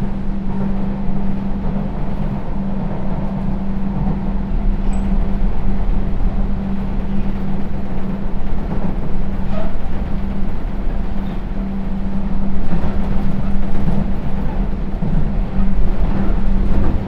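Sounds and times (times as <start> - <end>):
low train hum: 0.0 - 17.0
train wheels rumbling on track: 0.0 - 17.0.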